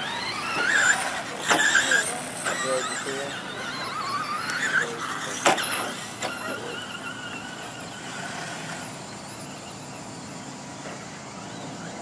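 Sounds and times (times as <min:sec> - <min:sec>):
high electric motor whine: 0:00.0 - 0:12.0.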